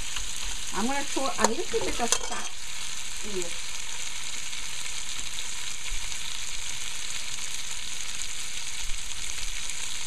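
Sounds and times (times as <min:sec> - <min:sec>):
meat sizzling in a pot: 0:00.0 - 0:10.0.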